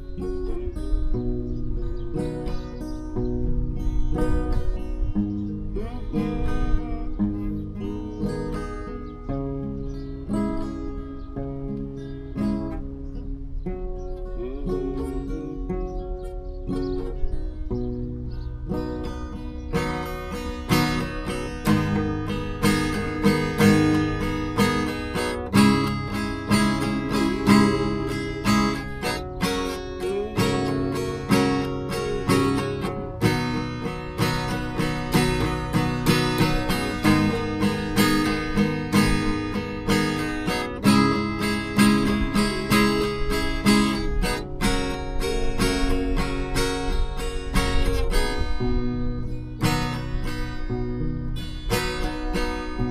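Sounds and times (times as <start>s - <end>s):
acoustic guitar music: 0.0s - 52.9s.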